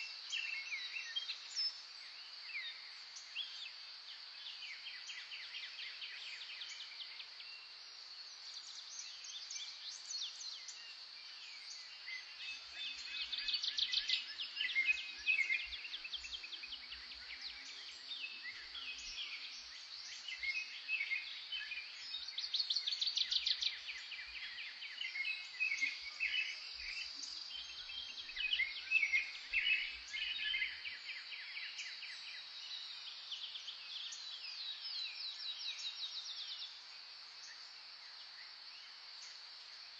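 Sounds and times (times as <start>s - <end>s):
wild birds singing and calling: 0.0s - 39.9s.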